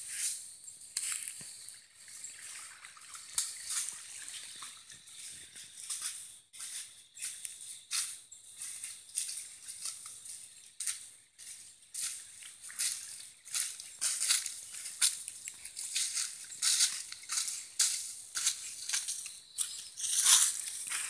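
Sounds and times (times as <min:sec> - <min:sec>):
footsteps on dry leaves and sand: 0:00.0 - 0:02.2, 0:03.0 - 0:21.0.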